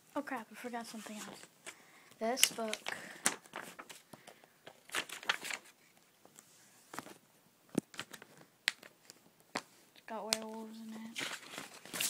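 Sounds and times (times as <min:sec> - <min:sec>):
book pages rustling: 0:00.8 - 0:12.0.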